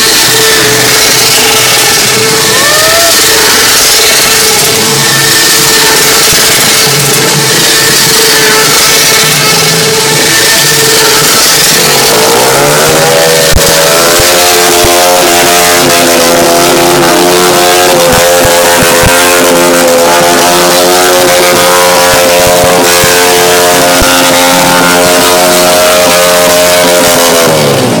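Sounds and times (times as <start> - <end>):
engine revving at high revs: 0.0 - 28.0.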